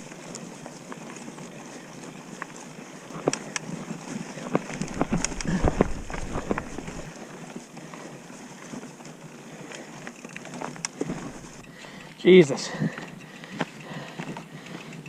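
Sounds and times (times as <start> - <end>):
bike knocking and rattling: 0.0 - 15.0.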